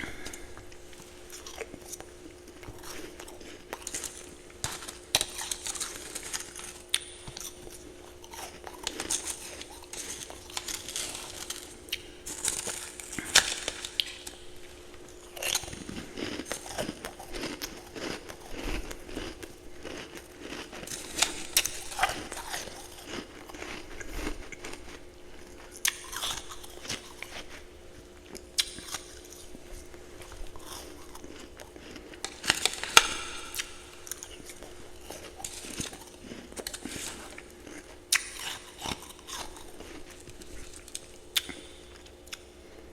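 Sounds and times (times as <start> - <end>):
ice crunching being chewed: 0.0 - 42.9.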